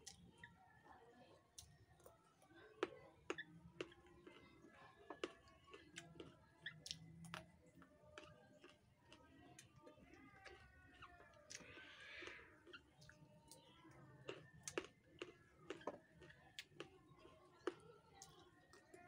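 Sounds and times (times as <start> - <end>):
chewing raw vegetables crunches: 3.2 - 19.0.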